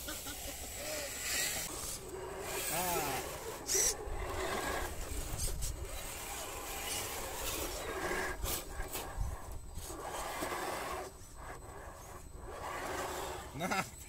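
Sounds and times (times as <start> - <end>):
toy cars grinding over sand and stone: 0.0 - 14.0.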